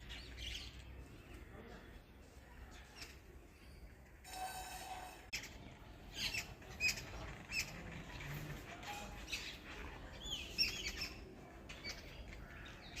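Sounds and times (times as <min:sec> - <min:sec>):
birds chirping: 0:00.0 - 0:04.2, 0:04.9 - 0:13.0.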